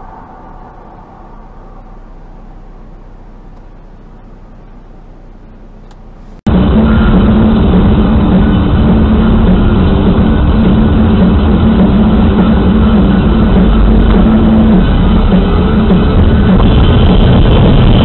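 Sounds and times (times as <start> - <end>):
car cabin noise: 0.0 - 18.0
muffled car driving drone: 0.0 - 18.0.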